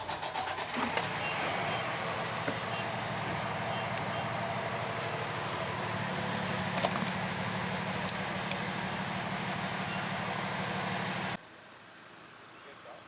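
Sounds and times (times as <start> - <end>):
car engine: 0.0 - 11.4
road noise: 0.0 - 11.4.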